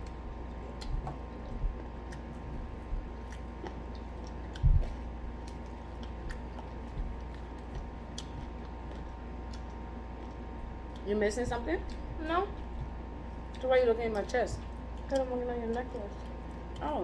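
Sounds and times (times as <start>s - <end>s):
chewing crispy fried chicken: 0.0s - 17.0s.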